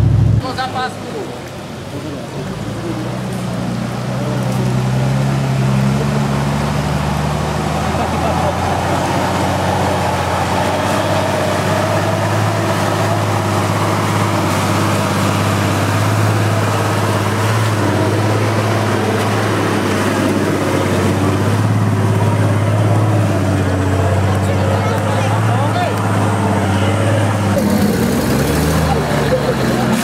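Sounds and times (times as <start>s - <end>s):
engine droning under load: 0.0s - 30.0s.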